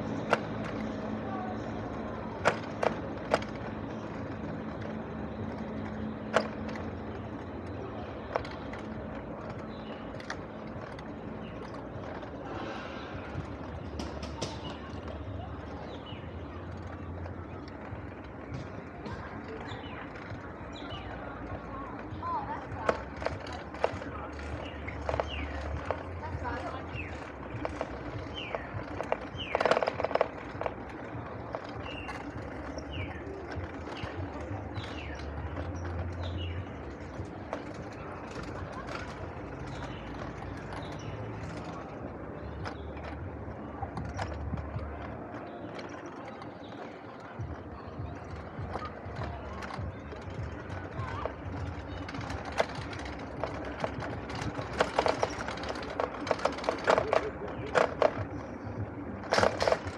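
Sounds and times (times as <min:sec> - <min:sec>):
e-bike rattling and humming: 0:00.0 - 0:59.9
tyres rumbling on path: 0:00.0 - 0:59.9.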